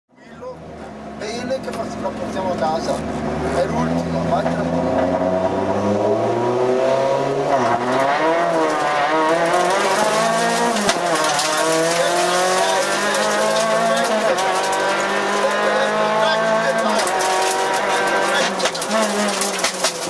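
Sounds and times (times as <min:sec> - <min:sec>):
car engine accelerating: 0:00.2 - 0:20.0.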